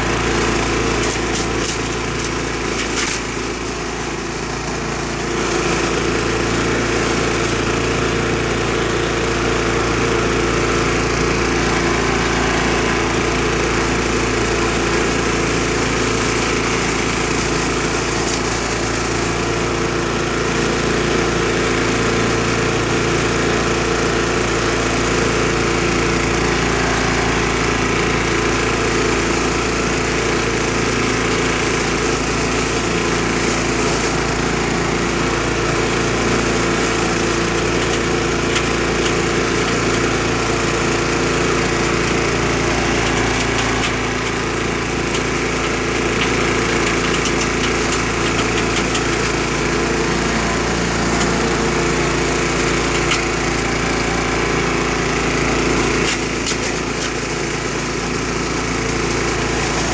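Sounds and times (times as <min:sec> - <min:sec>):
small gasoline engine running: 0:00.0 - 0:59.9.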